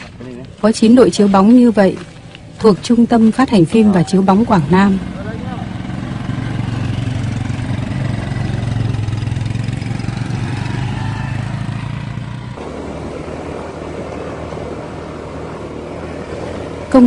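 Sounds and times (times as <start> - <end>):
road noise: 0.0 - 17.0
small motorbike engines: 0.0 - 17.0.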